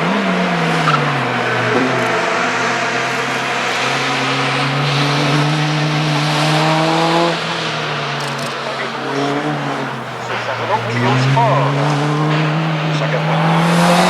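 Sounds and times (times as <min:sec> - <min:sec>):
racing car engine accelerating: 0:00.0 - 0:14.0.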